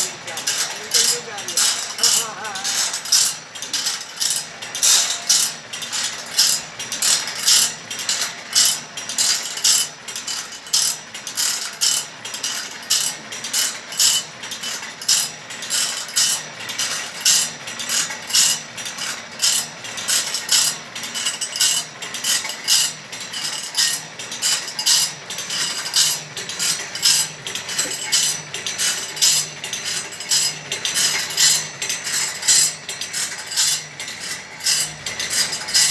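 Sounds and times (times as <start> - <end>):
sharp metallic clack: 0.0 - 35.9.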